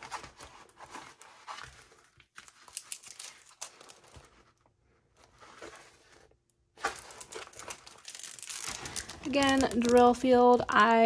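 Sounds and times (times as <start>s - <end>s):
plastic packaging crinkling: 0.0s - 4.6s, 5.3s - 11.0s.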